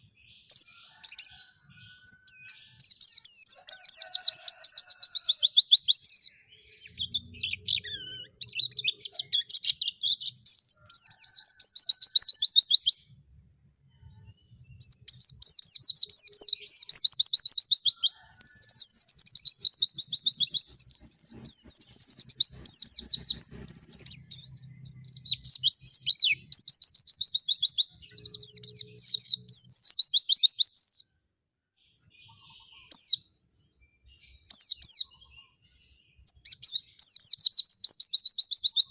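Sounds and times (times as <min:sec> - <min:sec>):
bird singing rapid twittering trills: 0:00.0 - 0:13.2, 0:14.0 - 0:31.1, 0:31.9 - 0:38.9.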